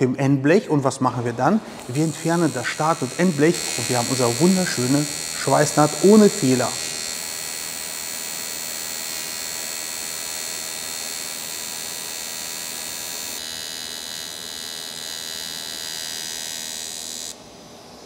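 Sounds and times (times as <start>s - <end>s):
welding arc buzzing: 1.3s - 17.4s.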